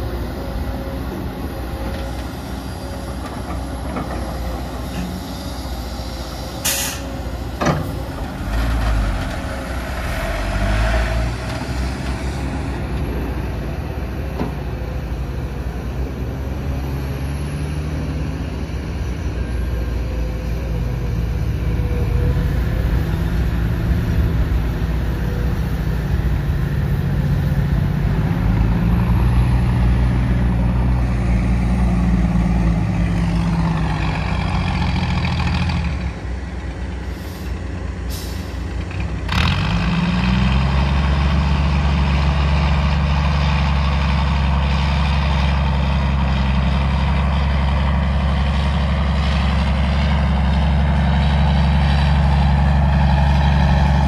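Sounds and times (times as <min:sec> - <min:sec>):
heavy diesel engines: 0:00.0 - 0:54.0.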